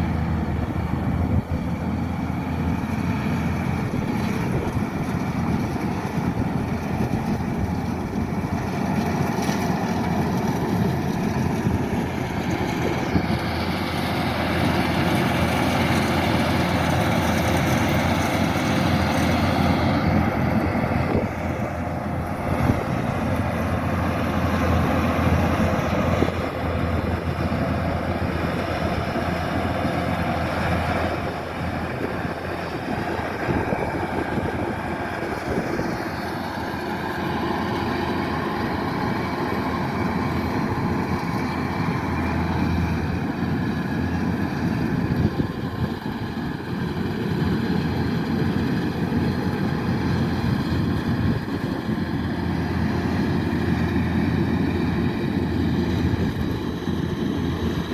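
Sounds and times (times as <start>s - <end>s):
combine harvester droning: 0.0s - 57.9s.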